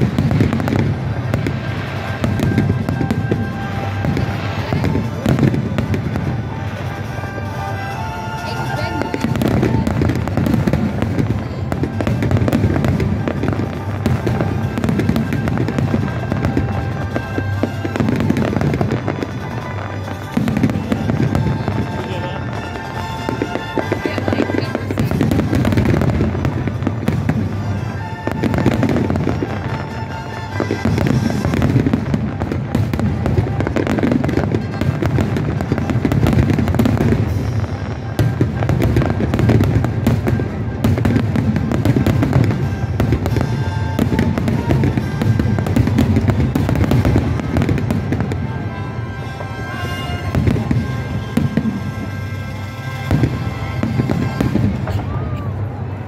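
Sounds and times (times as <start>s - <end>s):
fireworks bangs and crackles: 0.0s - 56.0s
music playing: 0.0s - 56.0s.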